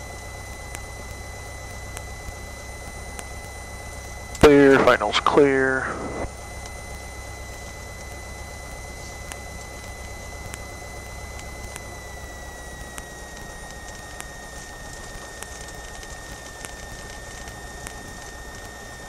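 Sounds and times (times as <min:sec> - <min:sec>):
propeller plane engine whine: 0:00.0 - 0:19.0
faint ticks: 0:00.5 - 0:04.5, 0:06.6 - 0:19.0.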